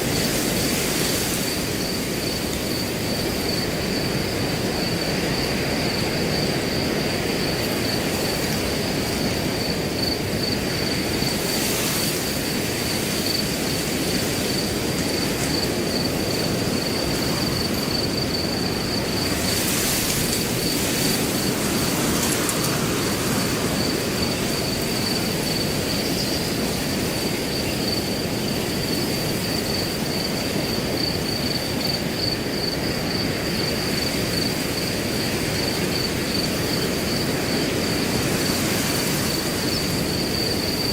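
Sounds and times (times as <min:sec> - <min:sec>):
crickets trilling: 0:00.0 - 0:40.9
wind blowing through grass: 0:00.0 - 0:40.9.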